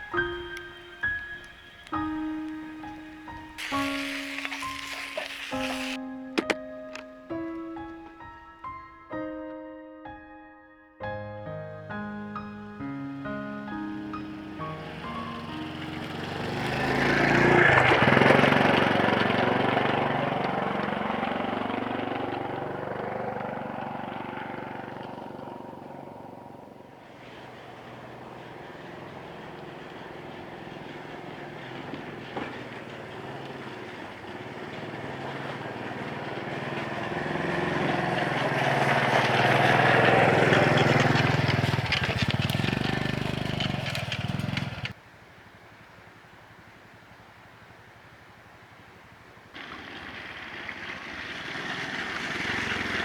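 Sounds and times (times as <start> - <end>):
motor vehicle passing by: 0.0 - 8.4, 13.2 - 45.0, 49.6 - 53.0.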